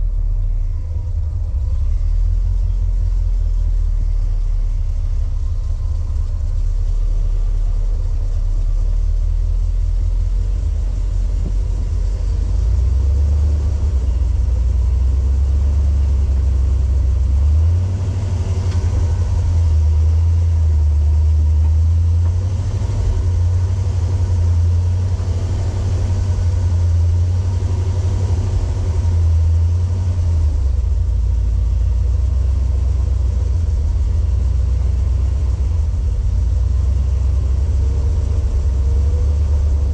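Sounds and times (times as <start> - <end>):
vehicle engine low rumble: 0.0 - 39.9.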